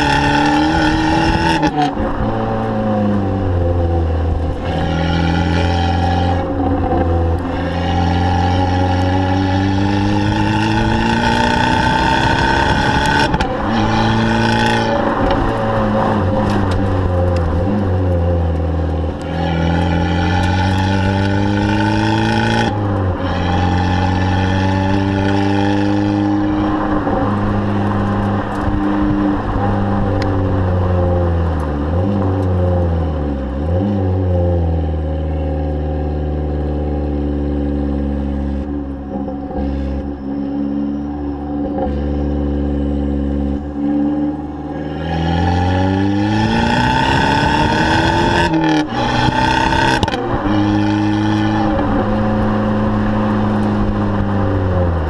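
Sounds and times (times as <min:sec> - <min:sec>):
car engine and exhaust revving: 0:00.0 - 0:55.0.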